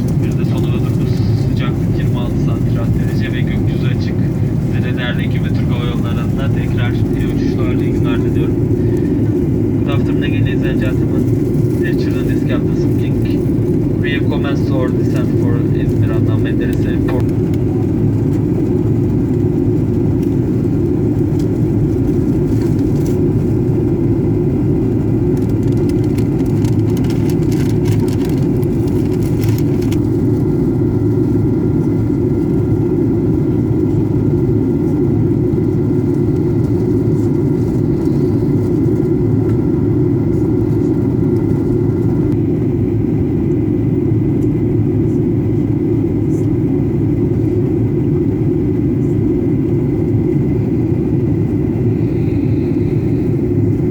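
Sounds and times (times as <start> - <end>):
airliner cabin engine and air noise: 0.0 - 53.9.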